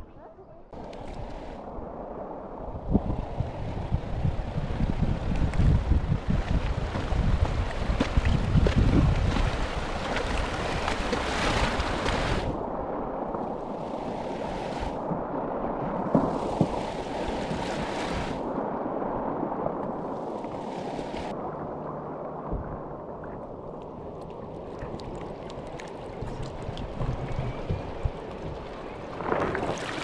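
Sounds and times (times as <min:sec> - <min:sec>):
wind buffeting microphone: 0:00.0 - 0:30.0
river rushing and burbling: 0:00.7 - 0:30.0.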